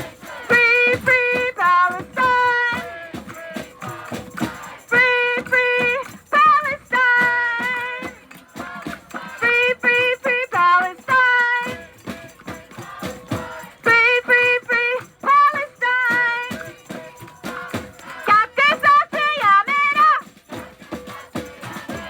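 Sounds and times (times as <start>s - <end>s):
music with high singing voice: 0.0s - 22.0s.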